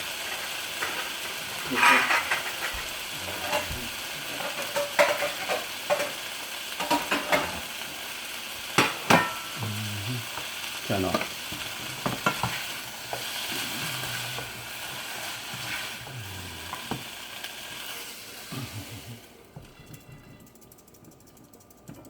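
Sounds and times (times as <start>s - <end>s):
food sizzling in hot pan: 0.0s - 20.9s.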